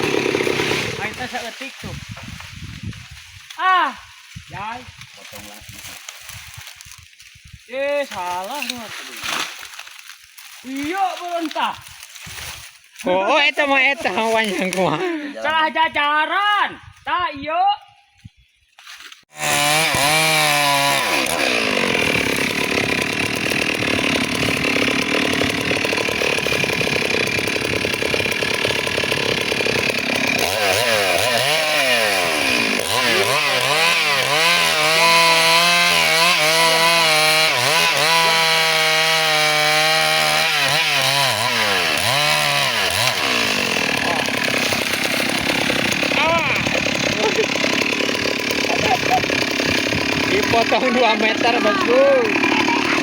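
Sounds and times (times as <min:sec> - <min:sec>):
chainsaw cutting wood: 0:00.0 - 0:03.6, 0:04.2 - 0:13.0, 0:13.6 - 0:15.0, 0:18.9 - 0:53.0.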